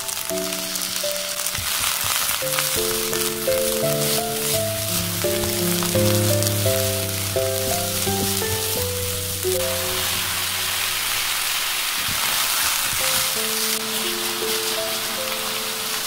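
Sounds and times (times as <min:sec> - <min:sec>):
gentle background music: 0:00.0 - 0:11.7, 0:13.0 - 0:16.0
vegetables sizzling in a pan: 0:00.0 - 0:16.0.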